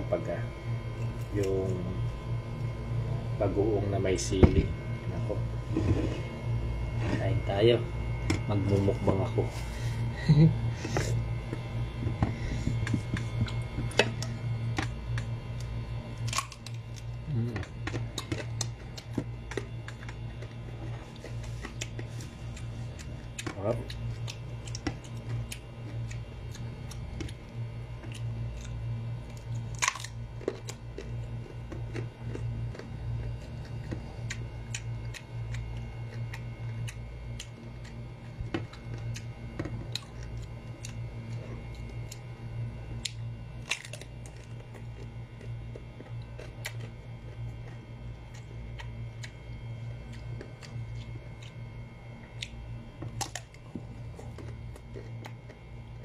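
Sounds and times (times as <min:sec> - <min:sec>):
crunchy chewing of raw fruit: 0:00.0 - 0:56.0
steady low hum: 0:00.0 - 0:56.0.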